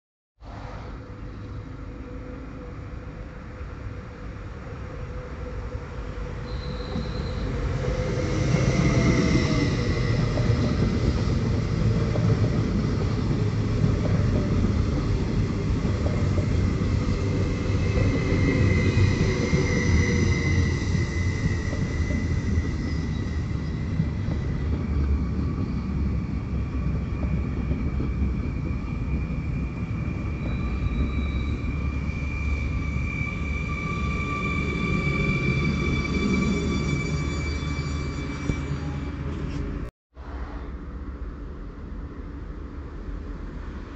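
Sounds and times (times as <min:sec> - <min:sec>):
train wheels rumbling on rail: 0:00.5 - 0:43.9.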